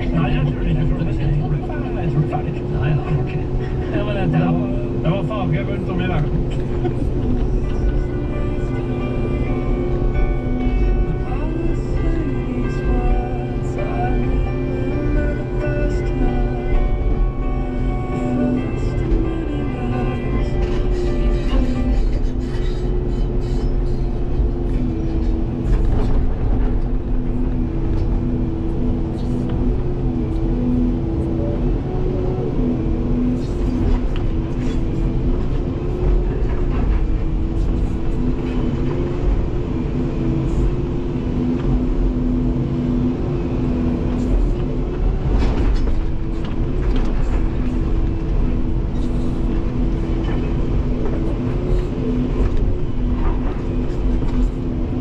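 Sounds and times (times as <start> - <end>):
excavator engine and hydraulics: 0.0 - 55.0.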